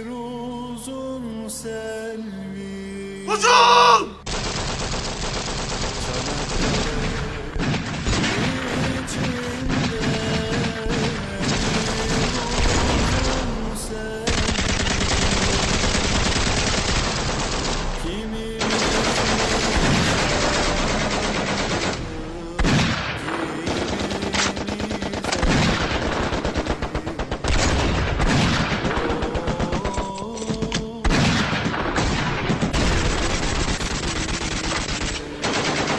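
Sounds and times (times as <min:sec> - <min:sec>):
rapid machine-gun and rifle fire: 0:04.3 - 0:13.6, 0:14.2 - 0:18.0, 0:18.6 - 0:35.9.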